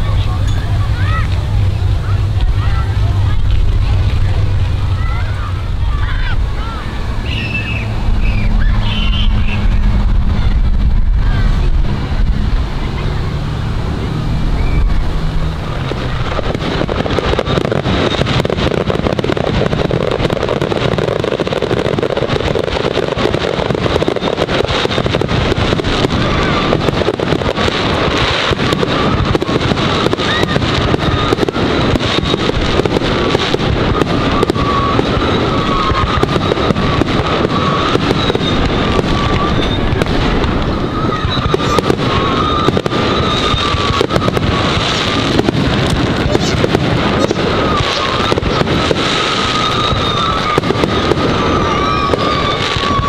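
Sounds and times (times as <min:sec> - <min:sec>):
fireworks crackling and popping: 0:00.0 - 0:53.0.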